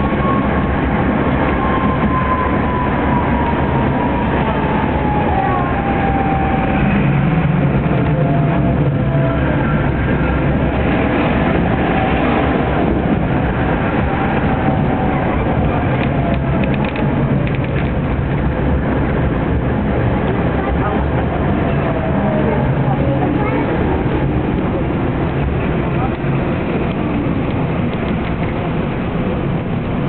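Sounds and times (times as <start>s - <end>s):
tram wheels rattling rumble: 0.0s - 30.0s.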